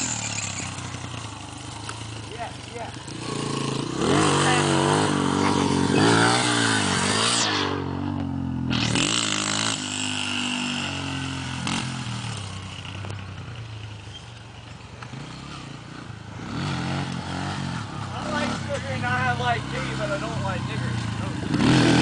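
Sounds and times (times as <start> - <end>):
dirt bike engine revving: 0.0 - 14.2, 15.0 - 22.0.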